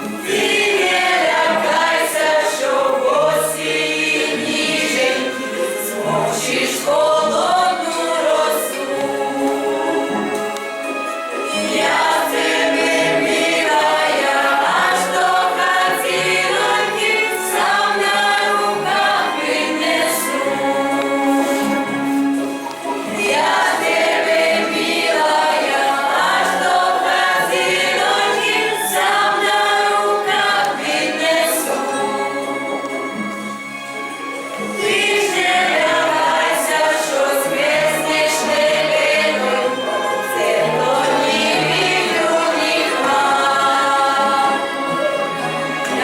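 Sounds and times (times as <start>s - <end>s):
choir singing: 0.0s - 46.0s.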